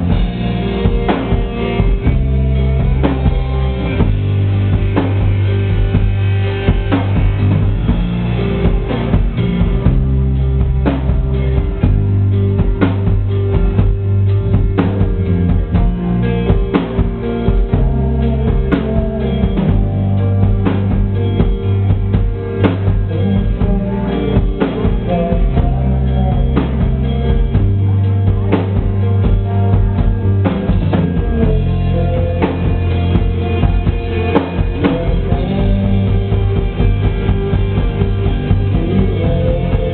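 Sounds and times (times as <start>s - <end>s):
bass and electric guitars: 0.0s - 39.9s
drum kit beat: 0.0s - 39.9s.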